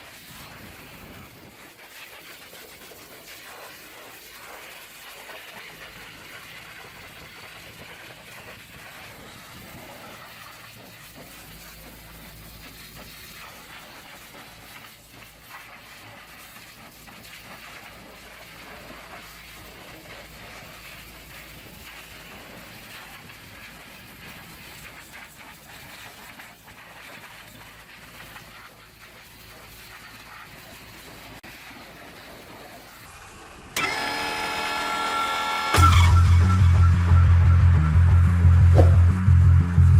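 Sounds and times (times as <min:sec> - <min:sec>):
pressure washer spraying water: 0:00.0 - 0:36.6.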